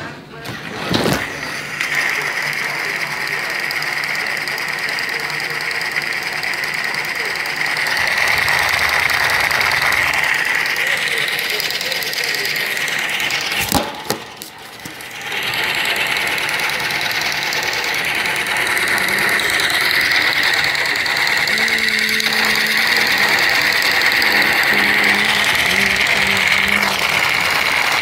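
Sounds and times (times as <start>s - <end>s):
toy train motors whirring: 0.7s - 28.0s.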